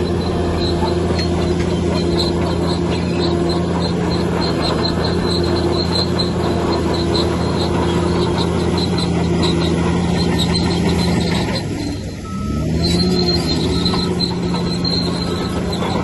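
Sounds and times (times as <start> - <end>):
heavy diesel machinery running: 0.0 - 16.0
short high squeaks: 0.0 - 16.0.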